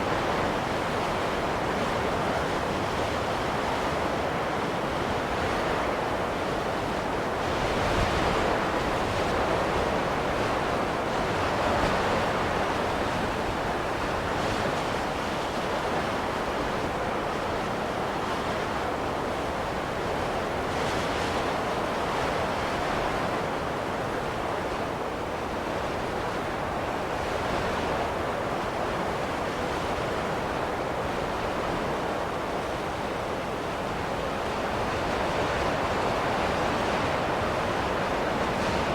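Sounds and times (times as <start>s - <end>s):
rushing wind of a snowstorm: 0.0s - 38.9s.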